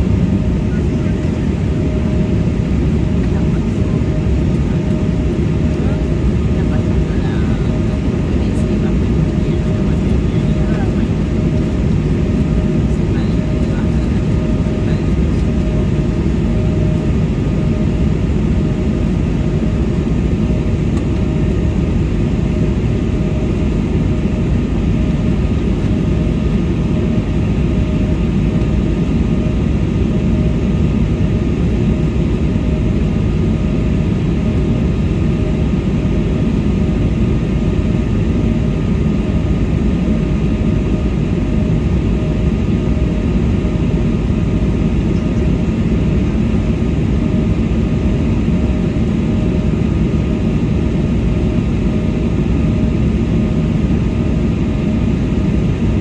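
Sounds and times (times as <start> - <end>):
jet engine and airflow rush: 0.0 - 56.0.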